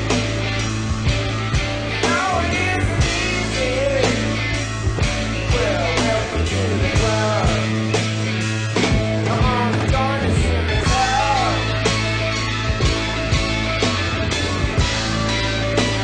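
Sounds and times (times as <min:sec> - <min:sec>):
rock song with vocals: 0:00.0 - 0:16.0.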